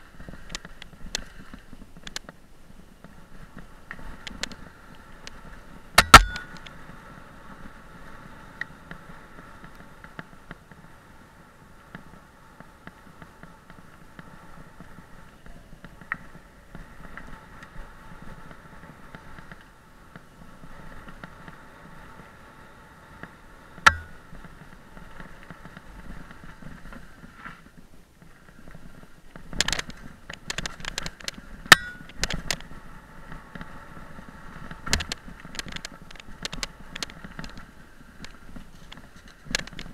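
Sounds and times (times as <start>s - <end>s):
bike whirring: 0.0s - 39.9s.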